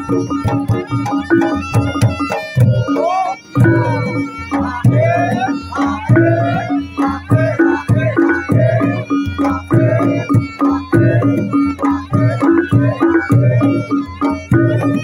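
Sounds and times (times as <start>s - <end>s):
hand drums beating: 0.0s - 15.0s
high wavering melody: 0.0s - 15.0s.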